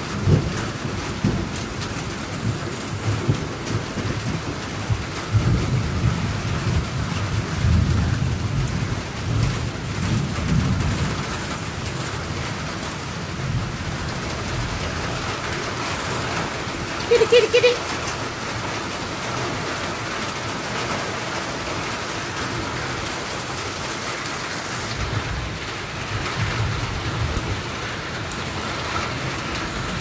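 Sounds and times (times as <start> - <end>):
thunder rumbling: 0.0 - 17.7, 21.8 - 30.0
steady rain: 0.0 - 30.0.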